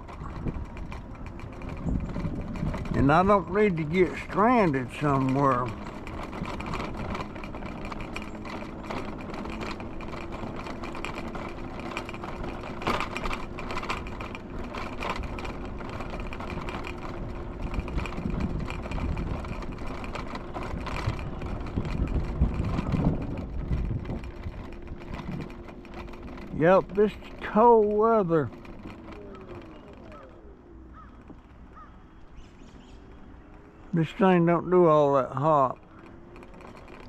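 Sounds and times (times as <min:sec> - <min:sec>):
scooter motor whine: 0:00.0 - 0:37.0
scooter rattles: 0:00.0 - 0:37.0
wheels rumbling over ground: 0:00.0 - 0:37.0.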